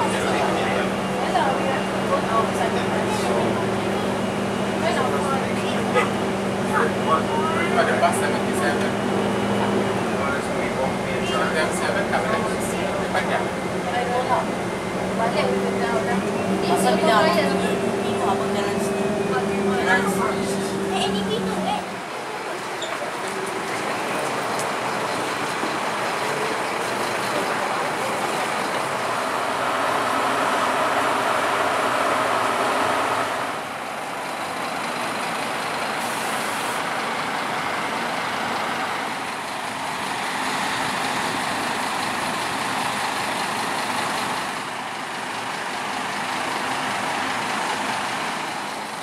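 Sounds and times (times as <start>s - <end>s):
bus diesel engine idling: 0.0s - 49.0s.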